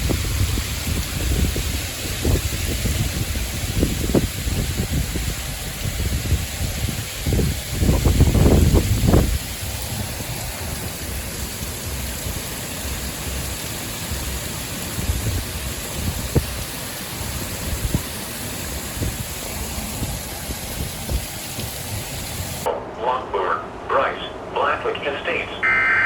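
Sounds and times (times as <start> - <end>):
rain falling: 0.0 - 22.7.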